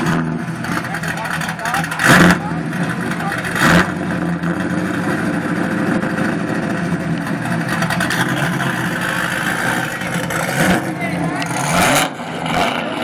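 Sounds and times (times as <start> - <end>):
car engine idling loudly: 0.0 - 13.0.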